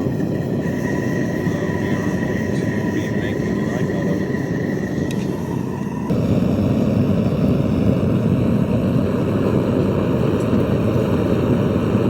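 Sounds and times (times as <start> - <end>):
propane forge burner roaring: 0.0 - 12.0.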